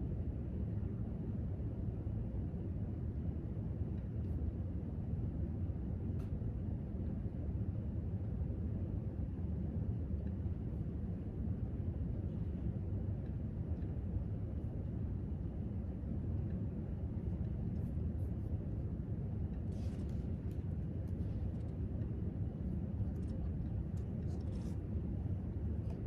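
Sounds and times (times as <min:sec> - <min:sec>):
ventilation rumble: 0:00.0 - 0:26.0.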